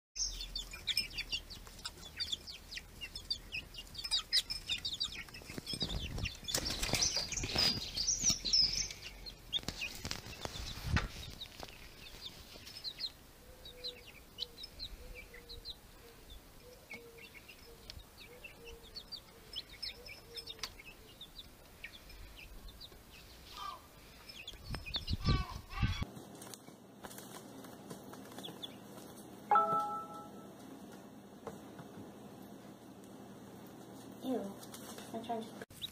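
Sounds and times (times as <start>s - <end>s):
chicks peeping: 0.2s - 35.9s.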